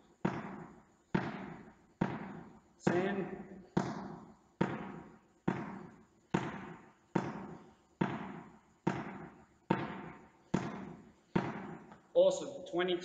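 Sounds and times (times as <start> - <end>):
ball bouncing on hall floor: 0.0 - 12.1.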